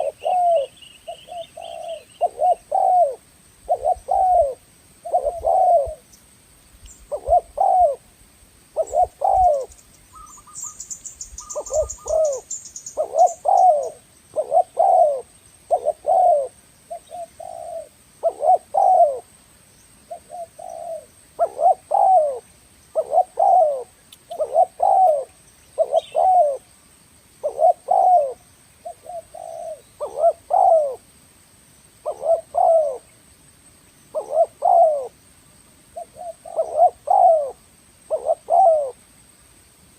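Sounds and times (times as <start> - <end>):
dove cooing: 0.0 - 6.1, 7.1 - 8.1, 8.7 - 19.3, 20.1 - 26.7, 27.4 - 31.1, 32.0 - 33.1, 34.1 - 35.2, 36.0 - 39.0.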